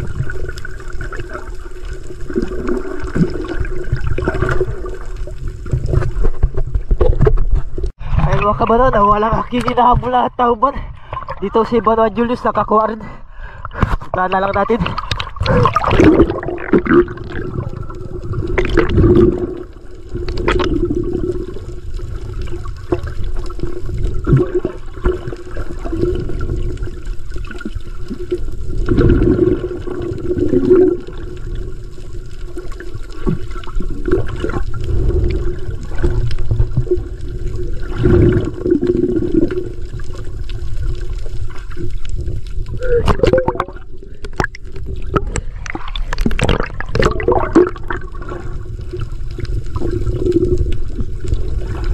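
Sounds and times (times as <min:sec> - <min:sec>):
muffled water sloshing and gurgling: 0:00.0 - 0:51.9.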